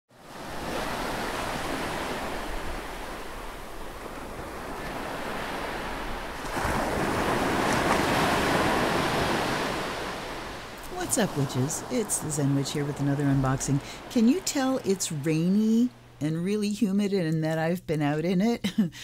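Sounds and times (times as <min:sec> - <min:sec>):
ocean waves rushing: 0:00.1 - 0:16.2.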